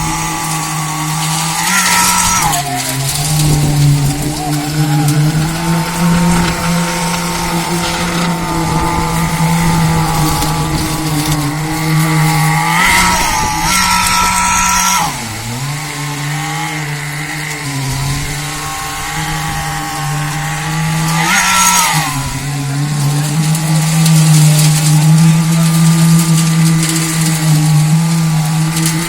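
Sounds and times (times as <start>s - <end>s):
construction machine engine running: 0.0s - 29.0s
hissing bursts: 0.0s - 29.0s.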